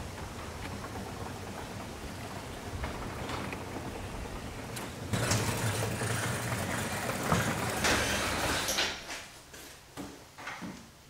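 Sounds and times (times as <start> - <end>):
garage door opener motor hum: 0.0 - 9.1
garage door rattling on rails: 0.0 - 9.2.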